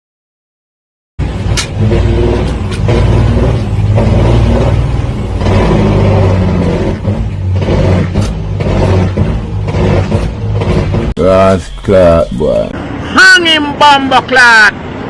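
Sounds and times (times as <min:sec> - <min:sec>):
diesel truck engine droning: 0:01.2 - 0:13.8.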